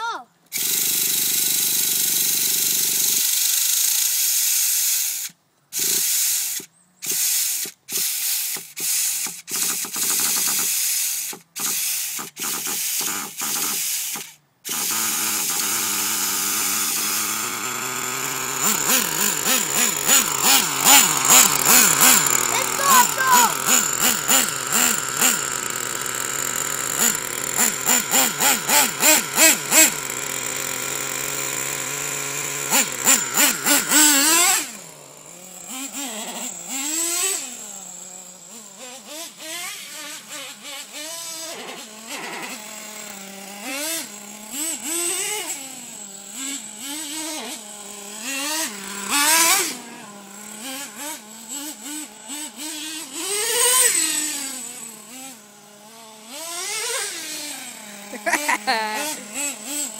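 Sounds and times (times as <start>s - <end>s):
nitro model engine revving: 0.0s - 59.9s.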